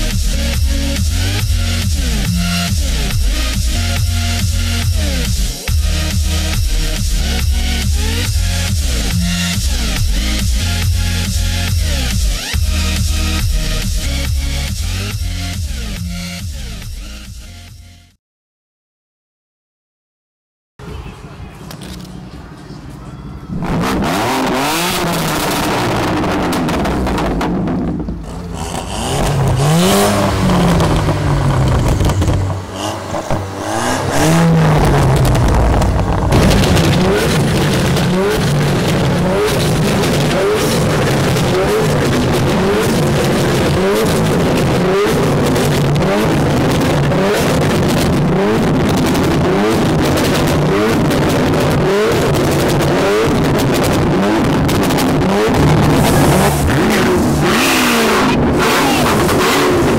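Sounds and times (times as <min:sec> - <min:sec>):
car exhaust revving: 0:00.0 - 0:17.3, 0:23.5 - 0:59.9.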